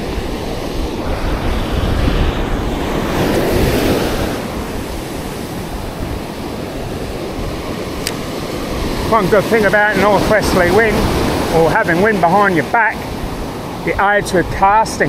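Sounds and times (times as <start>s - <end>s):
ocean surf breaking on sand: 0.0s - 15.0s
wind buffeting microphone: 0.0s - 15.0s.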